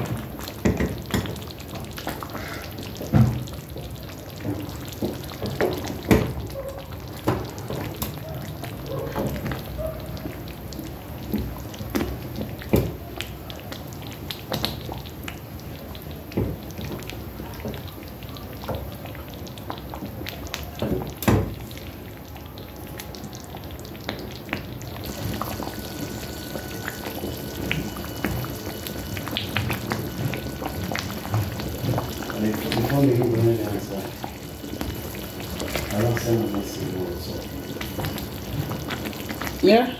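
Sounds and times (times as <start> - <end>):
stew bubbling and popping: 0.0 - 39.9.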